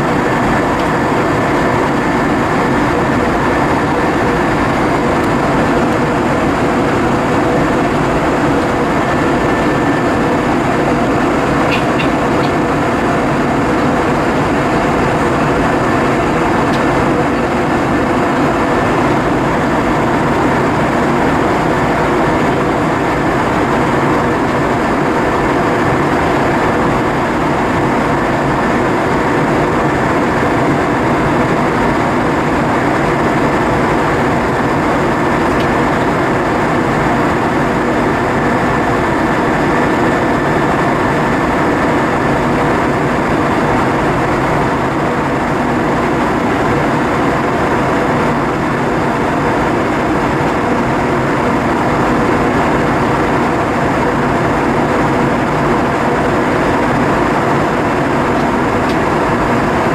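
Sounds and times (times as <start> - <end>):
airflow rushing in aircraft cabin: 0.0 - 59.9
jet engine noise: 0.0 - 59.9.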